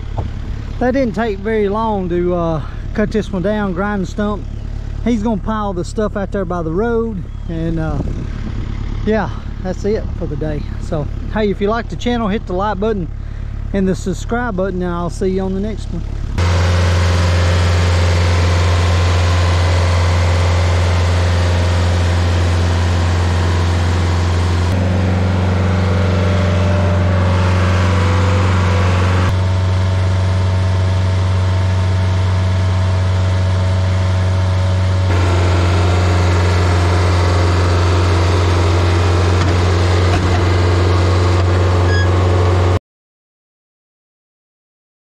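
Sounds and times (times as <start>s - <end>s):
stump grinder engine running: 0.0s - 42.8s.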